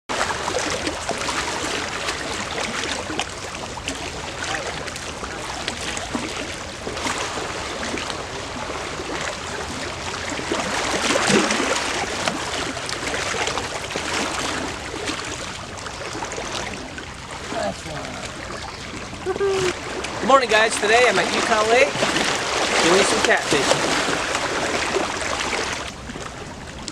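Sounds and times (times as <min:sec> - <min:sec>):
lake water lapping and splashing: 0:00.1 - 0:26.9.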